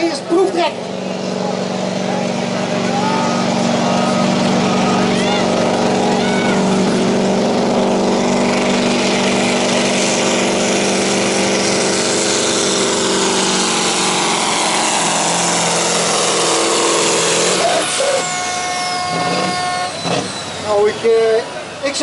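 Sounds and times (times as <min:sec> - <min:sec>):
truck diesel engine under load: 0:00.0 - 0:22.0.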